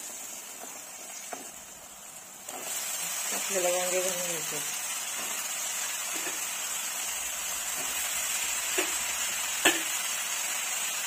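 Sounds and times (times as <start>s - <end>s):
vegetables frying with sizzle: 0.0s - 11.0s.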